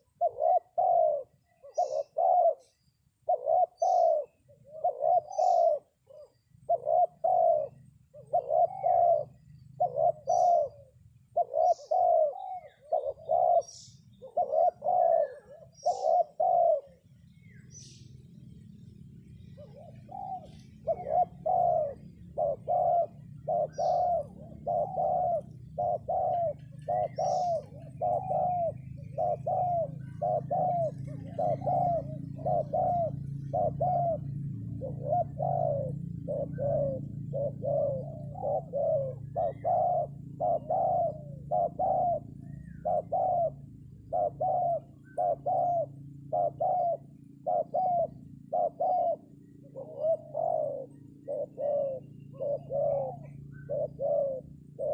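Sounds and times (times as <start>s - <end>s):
dove cooing: 0.0s - 54.9s
faint small bird chirps: 0.0s - 54.9s.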